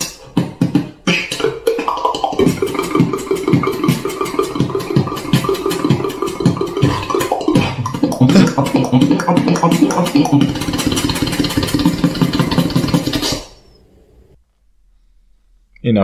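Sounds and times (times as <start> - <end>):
person beatboxing: 0.0 - 13.6.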